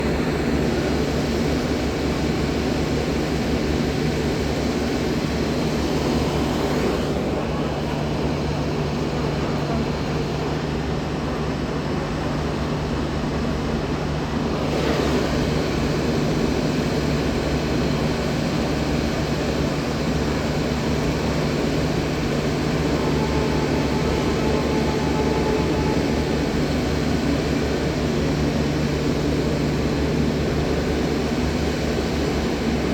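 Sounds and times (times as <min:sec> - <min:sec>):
low engine drone: 0:00.0 - 0:32.9.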